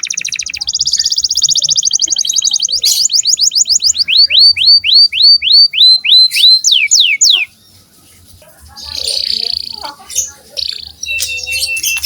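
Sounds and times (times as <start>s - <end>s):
canary singing: 0.0s - 7.8s, 8.7s - 12.0s.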